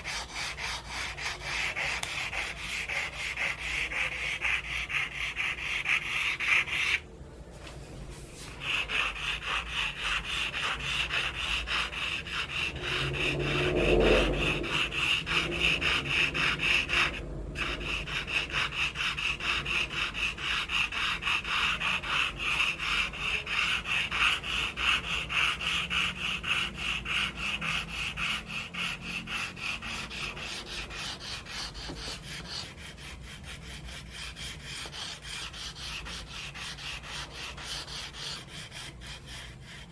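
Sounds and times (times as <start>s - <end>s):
charcoal scraping across paper: 0.0s - 7.0s, 7.6s - 39.9s.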